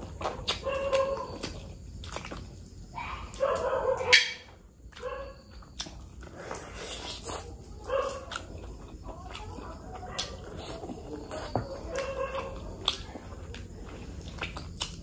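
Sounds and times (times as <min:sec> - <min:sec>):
wet chewing and lip smacks: 0:00.0 - 0:04.2, 0:04.8 - 0:15.0.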